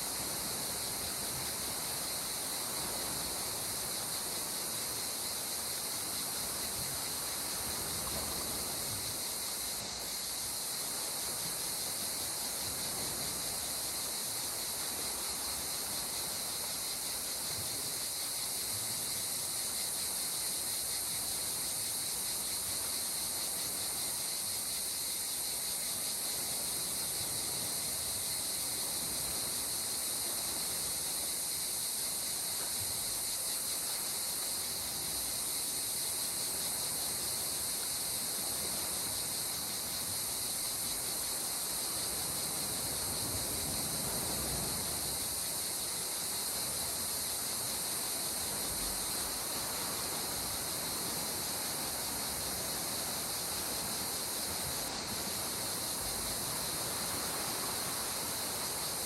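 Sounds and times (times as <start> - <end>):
insect chorus: 0.0 - 59.0
soft constant noise: 0.0 - 59.0.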